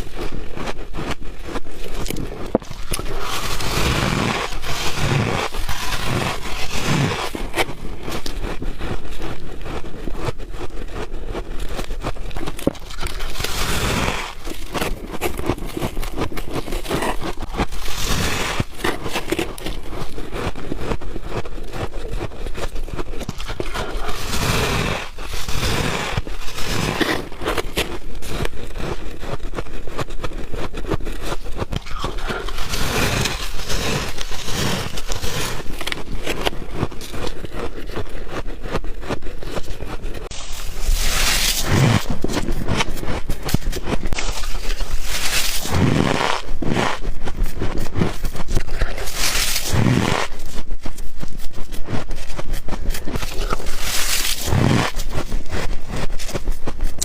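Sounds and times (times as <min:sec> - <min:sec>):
chewing and crunching ice: 0:00.0 - 0:57.0.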